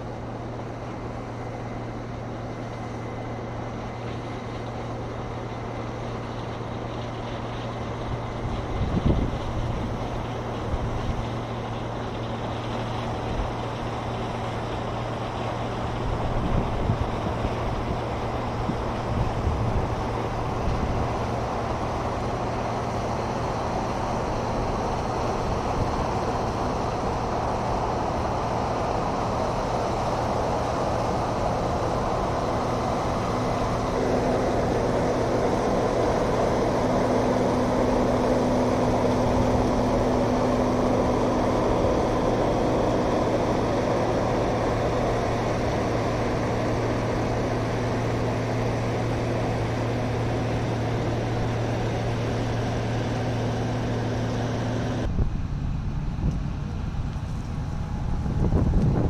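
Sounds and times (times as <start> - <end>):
combine harvester engine drone: 0.0 - 59.0
second machine hum: 0.0 - 59.0.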